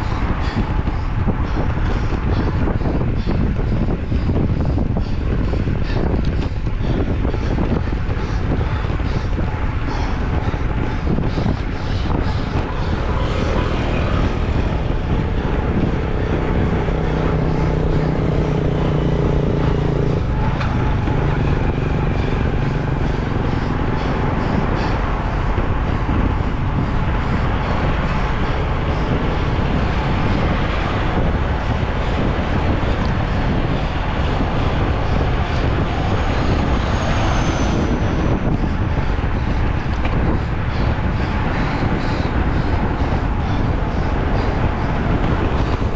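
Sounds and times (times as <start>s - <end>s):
engine hum: 0.0s - 45.9s
wind and vehicle noise: 0.0s - 45.9s.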